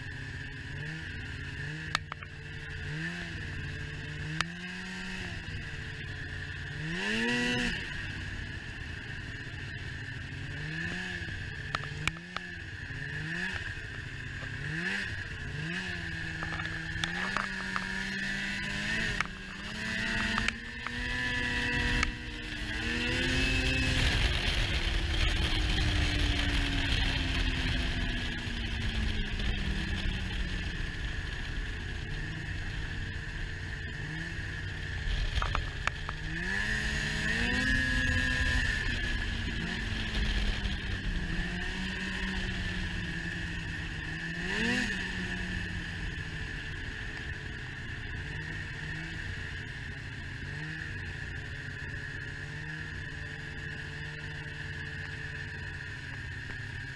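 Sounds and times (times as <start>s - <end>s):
snowmobile engine revving: 0.0s - 8.4s, 9.0s - 56.9s.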